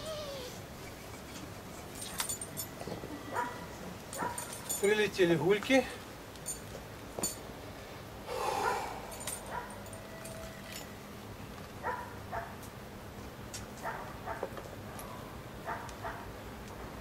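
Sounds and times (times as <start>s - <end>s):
rustle: 0.0s - 17.0s.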